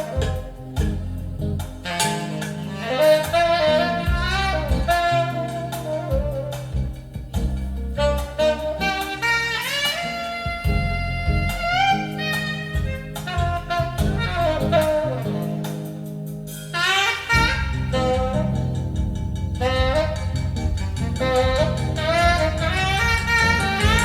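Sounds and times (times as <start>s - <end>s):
bass and drums: 0.0s - 24.0s
horn soloing: 0.0s - 24.0s.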